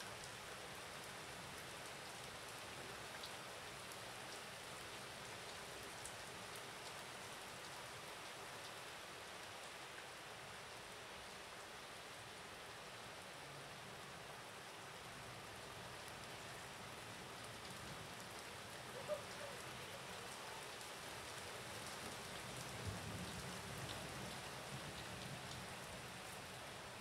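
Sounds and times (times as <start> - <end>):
light rain falling: 0.0 - 27.0.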